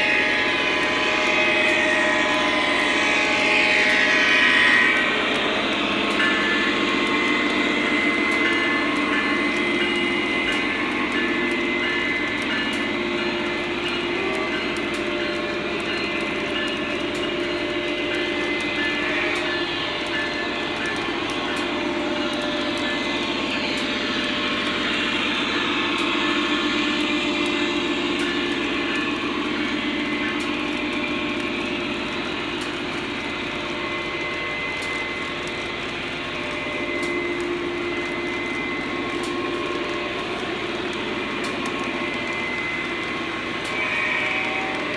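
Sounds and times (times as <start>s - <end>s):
model trains running on track: 0.0s - 44.9s
rail clicks: 0.0s - 44.9s.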